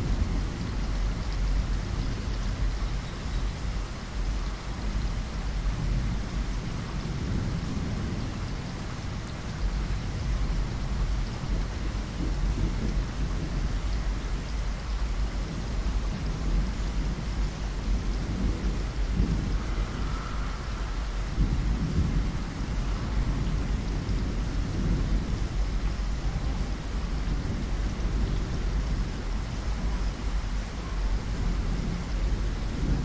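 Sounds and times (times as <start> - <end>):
steady rain falling: 0.0 - 33.0
thunder rumbling: 0.0 - 33.0.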